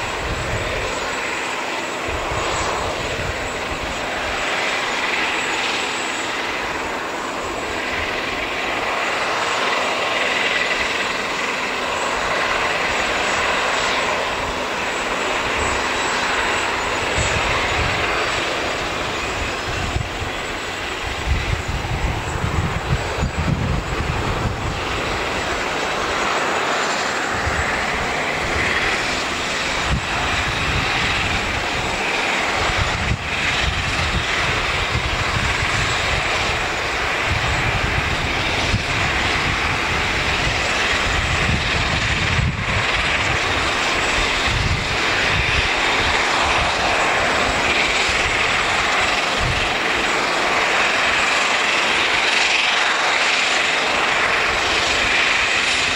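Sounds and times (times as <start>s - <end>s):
turboprop engines running: 0.0s - 55.9s.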